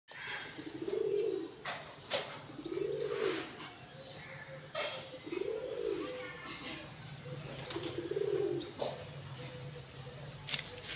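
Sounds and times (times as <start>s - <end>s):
pigeons cooing: 0.6s - 10.9s.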